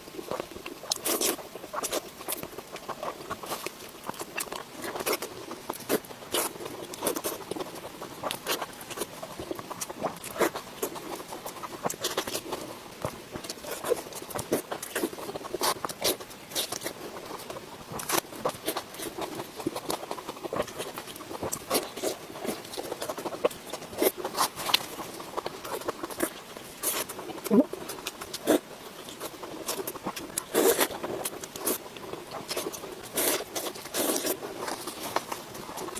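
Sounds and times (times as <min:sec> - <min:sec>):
close chewing and mouth noises: 0:00.0 - 0:35.9.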